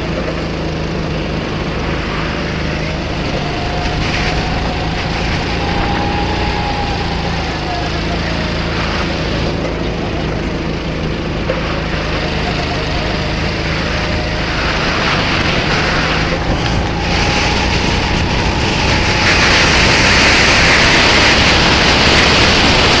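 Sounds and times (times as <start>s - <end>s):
kart engine running hard: 0.0s - 23.0s
wind rushing over microphone: 0.7s - 23.0s.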